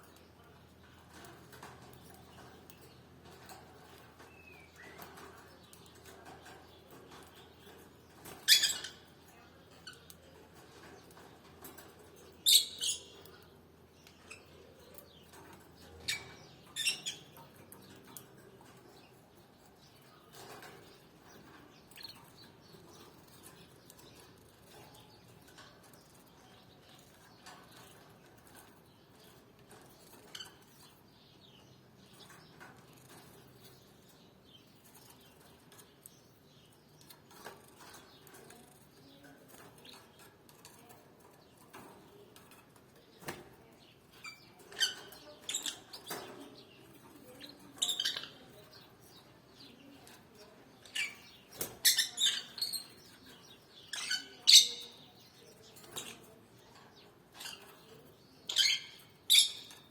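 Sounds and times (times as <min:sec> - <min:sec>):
birds rustling and clicking: 0:00.0 - 0:59.9
canaries calling: 0:03.8 - 0:11.7, 0:12.3 - 0:40.2, 0:43.2 - 0:59.9.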